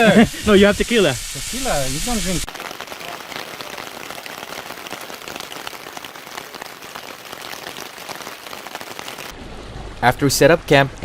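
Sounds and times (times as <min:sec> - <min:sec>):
food sizzling in a pan: 0:00.0 - 0:09.4.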